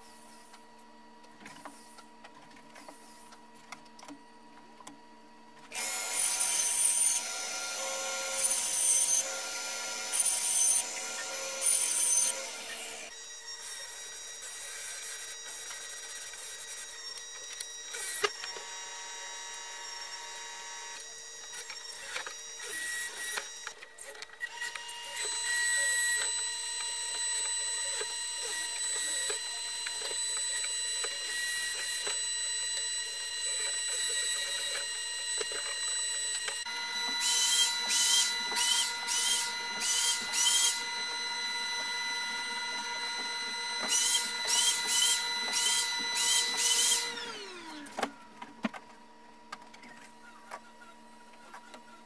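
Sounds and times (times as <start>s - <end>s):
router whining in surges: 5.7s - 48.1s
power tools whining: 5.7s - 48.8s.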